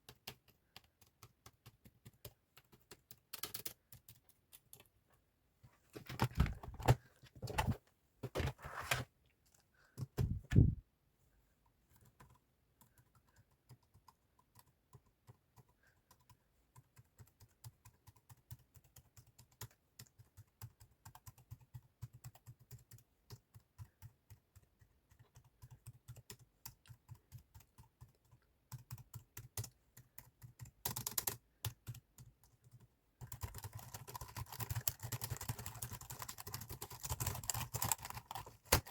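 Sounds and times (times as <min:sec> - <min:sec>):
computer keyboard typing: 0:00.0 - 0:05.0, 0:12.0 - 0:38.9.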